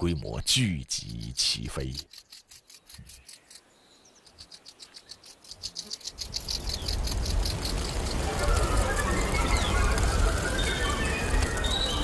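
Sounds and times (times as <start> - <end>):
locusts clicking chirps: 0.0 - 10.6.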